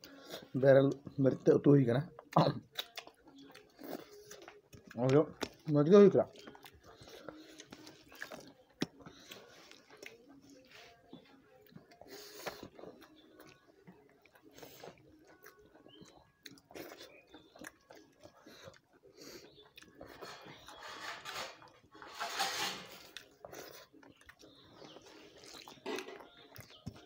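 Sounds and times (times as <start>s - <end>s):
chewing and mouth sounds: 2.1s - 20.7s, 23.0s - 27.0s.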